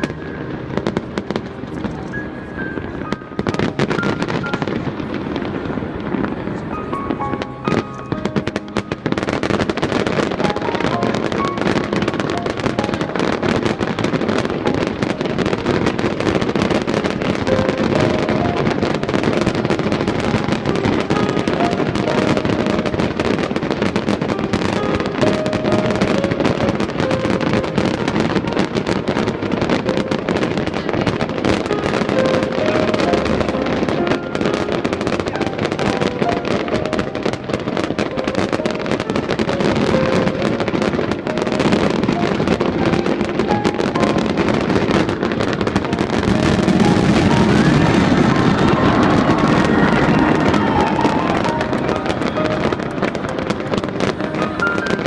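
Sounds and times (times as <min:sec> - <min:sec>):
fireworks bursting and crackling: 0:00.0 - 0:55.0
music playing: 0:00.0 - 0:55.0.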